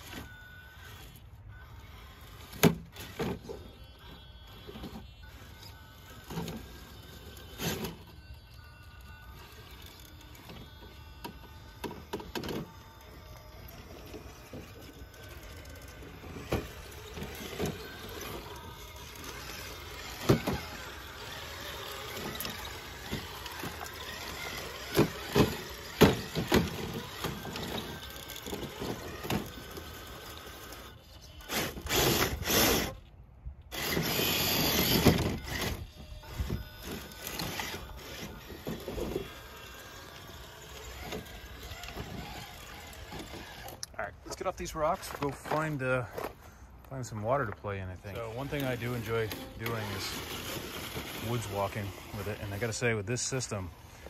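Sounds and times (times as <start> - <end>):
toy car clattering on rocks: 1.8 - 33.0, 33.7 - 46.4, 47.5 - 53.7.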